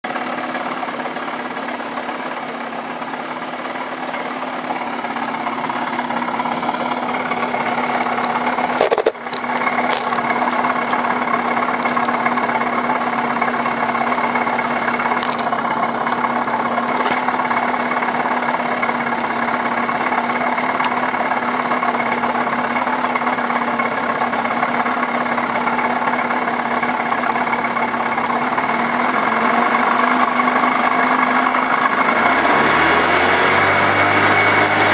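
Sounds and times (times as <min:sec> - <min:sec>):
outboard motor idling: 0:00.0 - 0:34.9.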